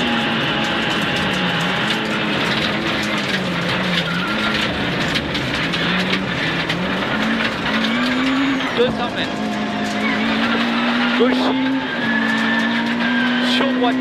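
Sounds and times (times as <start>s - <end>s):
gravel striking car: 0.0s - 14.0s
rally car engine revving: 0.0s - 14.0s
tyre and road noise: 0.0s - 14.0s.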